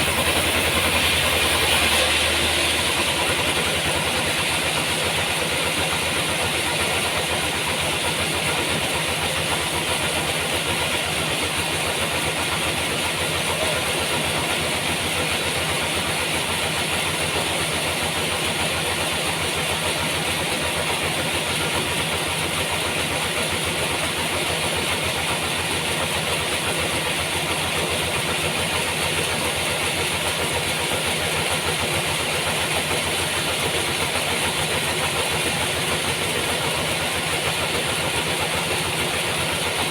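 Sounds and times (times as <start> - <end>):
sawmill machine drone with hiss: 0.0 - 39.9.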